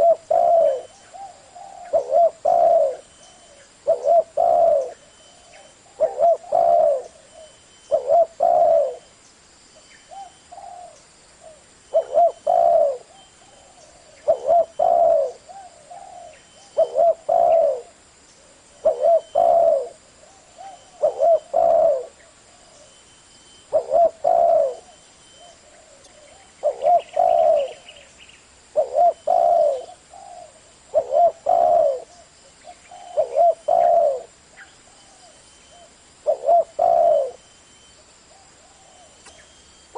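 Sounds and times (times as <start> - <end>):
dove cooing: 0.0 - 9.1, 10.1 - 23.0, 23.6 - 37.5, 38.3 - 39.9.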